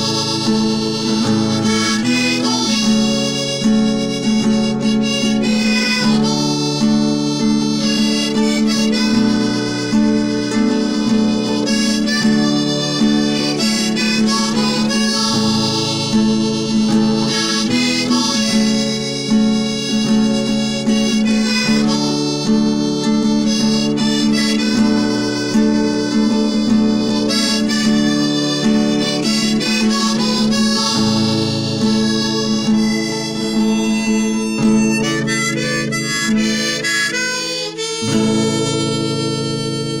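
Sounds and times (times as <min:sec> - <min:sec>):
accordion melody: 0:00.0 - 0:40.0.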